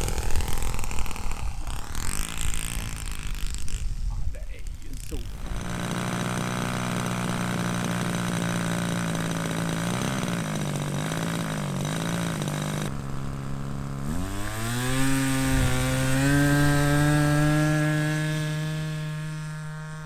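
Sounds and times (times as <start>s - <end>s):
model plane engine running: 0.0s - 20.0s.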